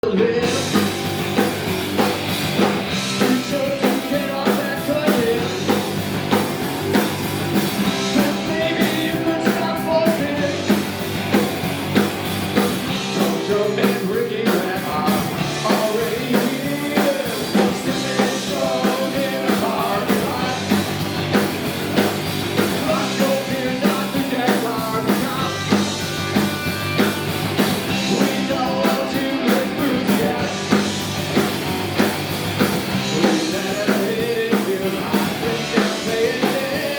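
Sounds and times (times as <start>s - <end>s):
drum kit beat: 0.0s - 36.9s
rock band playing: 0.0s - 36.9s.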